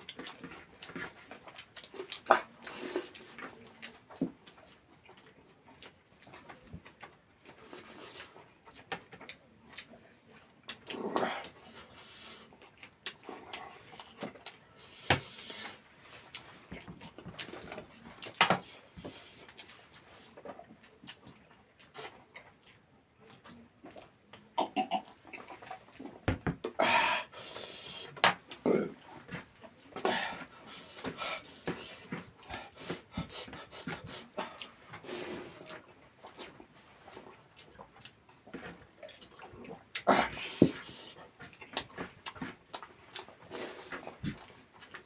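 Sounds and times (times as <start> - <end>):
chewing with wet mouth clicks: 0.0 - 11.8, 12.4 - 26.8, 28.1 - 45.0.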